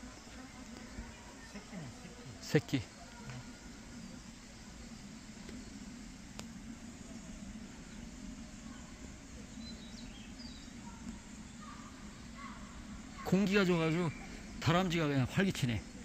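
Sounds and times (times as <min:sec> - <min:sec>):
faint bird chirps: 0:00.0 - 0:16.0
forest background rush: 0:00.0 - 0:16.0.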